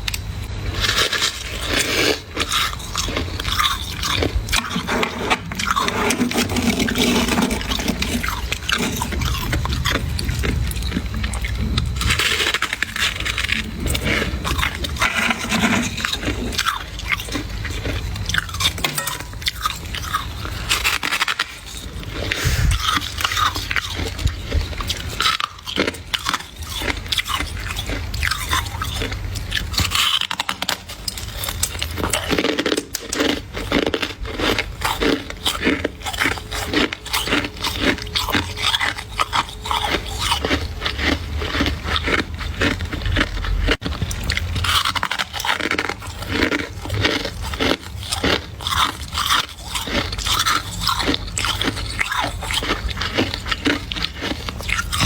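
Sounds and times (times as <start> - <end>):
ice crunching and cracking: 0.7 - 55.0.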